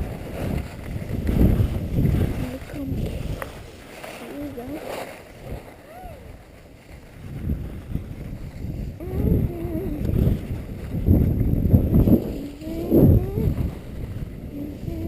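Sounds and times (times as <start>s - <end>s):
skis scraping over snow: 0.0s - 15.0s
wind rushing over microphone: 0.0s - 15.0s.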